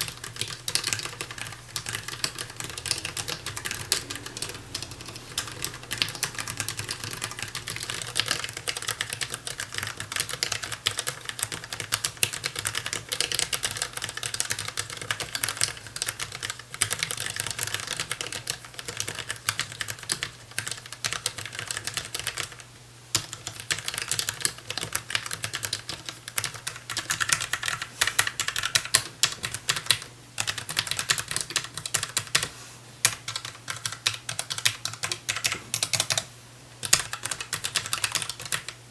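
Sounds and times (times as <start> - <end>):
fast typing on keyboard: 0.0 - 38.8.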